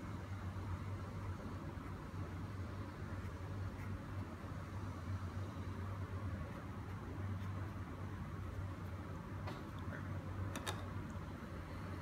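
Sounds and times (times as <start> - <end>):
low room hum with faint hiss: 0.0 - 12.0.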